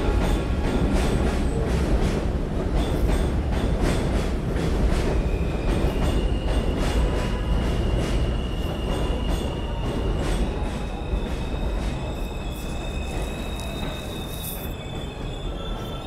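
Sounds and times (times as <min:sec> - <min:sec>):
subway train wheels clattering: 0:00.0 - 0:16.0.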